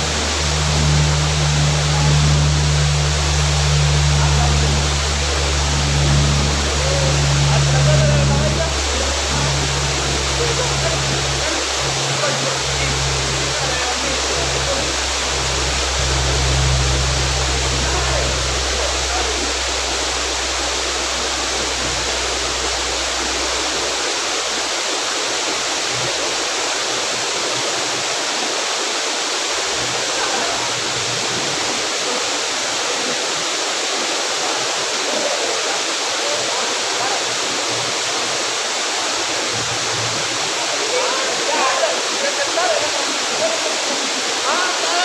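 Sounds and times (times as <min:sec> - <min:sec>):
low hum: 0:00.0 - 0:35.0, 0:36.8 - 0:40.9
waterfall rushing: 0:00.0 - 0:45.0.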